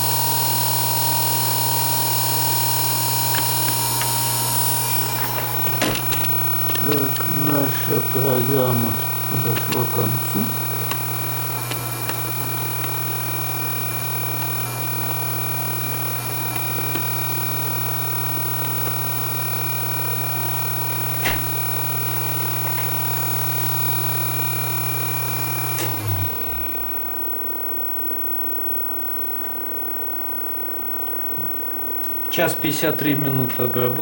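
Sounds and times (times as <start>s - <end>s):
router spindle motor whining: 0.0s - 27.6s.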